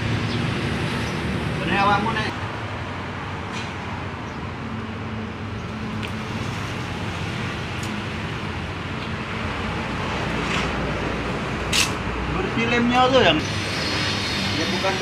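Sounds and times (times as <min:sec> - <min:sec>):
motor vehicles rumbling: 0:00.0 - 0:15.0.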